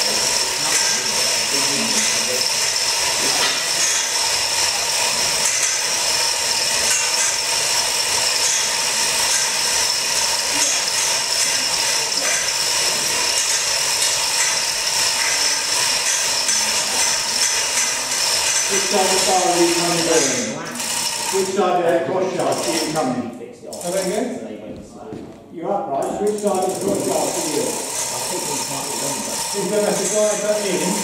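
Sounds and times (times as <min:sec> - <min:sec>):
chains rattling: 0:00.0 - 0:21.6, 0:26.0 - 0:31.0
ratchets clicking: 0:00.0 - 0:23.1, 0:23.7 - 0:24.3, 0:26.0 - 0:31.0.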